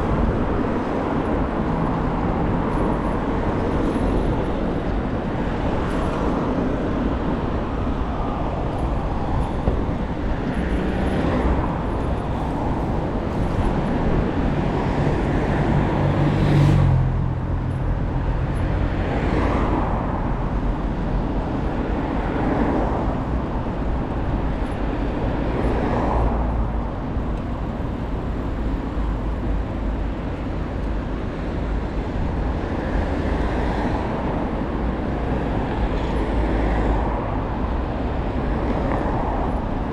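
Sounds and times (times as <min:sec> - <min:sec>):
street traffic rumble: 0:00.0 - 0:39.9
vehicles passing: 0:00.0 - 0:39.9.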